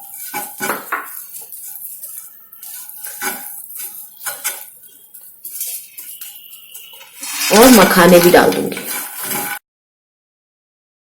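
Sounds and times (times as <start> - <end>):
spoon scraping a pan: 0.0 - 9.6.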